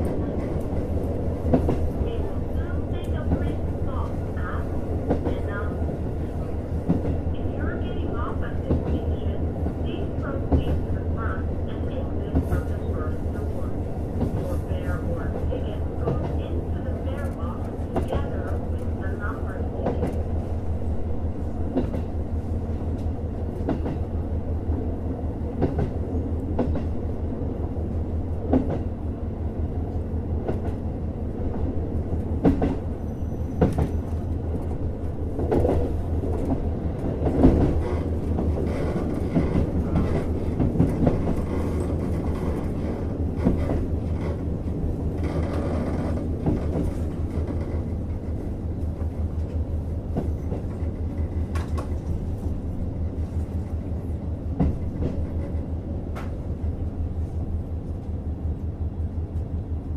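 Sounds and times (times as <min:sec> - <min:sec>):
rumbling wheel and track noise: 0:00.0 - 0:59.9.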